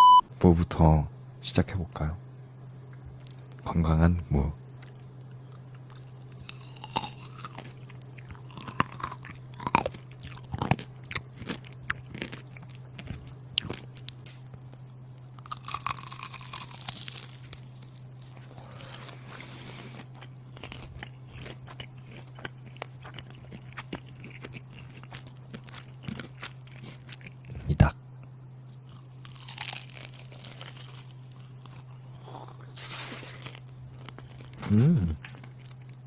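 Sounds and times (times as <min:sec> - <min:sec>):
low electrical hum: 0:00.0 - 0:36.0
radish crunching and chewing: 0:04.8 - 0:36.0.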